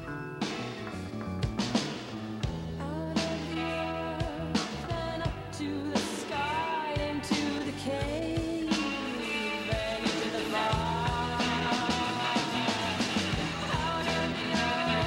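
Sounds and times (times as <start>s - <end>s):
rock band music: 0.0s - 15.0s.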